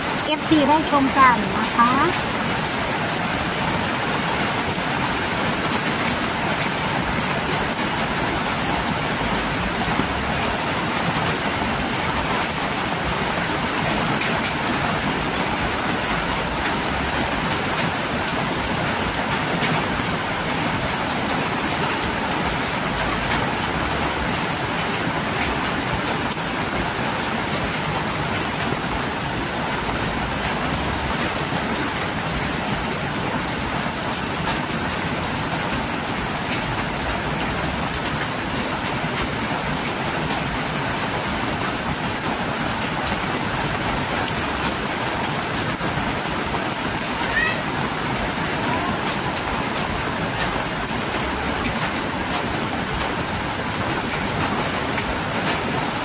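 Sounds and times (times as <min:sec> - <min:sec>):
heavy rain hissing: 0:00.0 - 0:56.0
water pouring off roof: 0:00.0 - 0:56.0.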